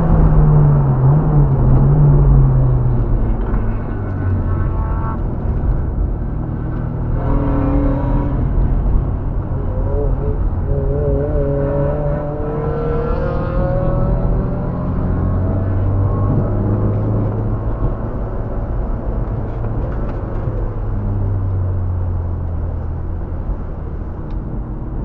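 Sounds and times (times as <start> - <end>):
car engine accelerating: 0.0 - 25.0
road noise inside car: 0.0 - 25.0.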